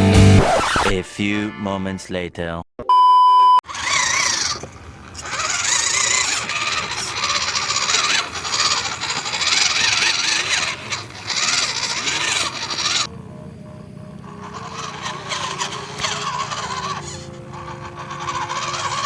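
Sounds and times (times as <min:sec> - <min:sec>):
toy truck electric motor whining: 0:03.6 - 0:19.0.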